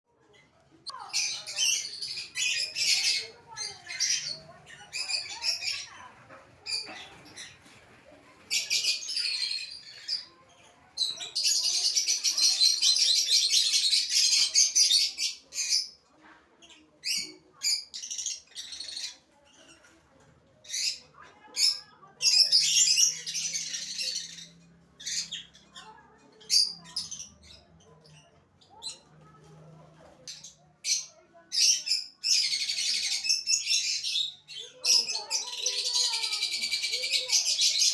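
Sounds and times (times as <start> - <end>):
birds squawking and chirping: 0.3 - 37.9.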